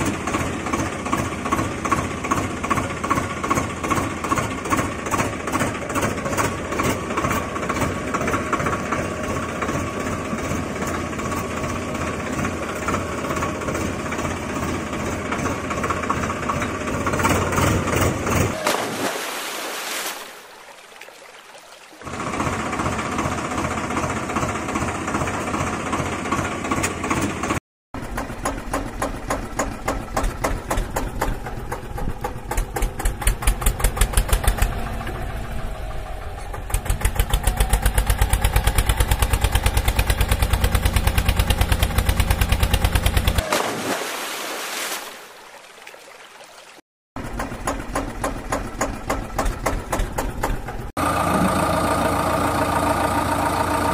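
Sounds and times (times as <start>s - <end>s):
engine chugging: 0.0s - 18.6s, 22.0s - 43.5s, 47.2s - 53.9s.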